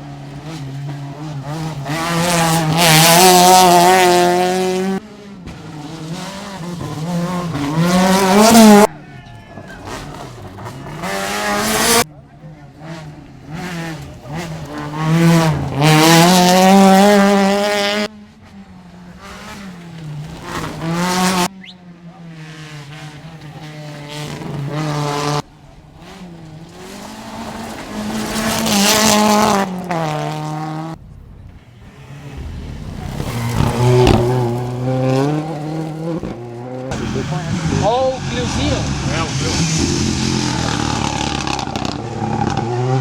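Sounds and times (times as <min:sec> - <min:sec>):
rally cars revving past: 0:00.0 - 0:09.0, 0:09.6 - 0:31.0, 0:31.6 - 0:43.0.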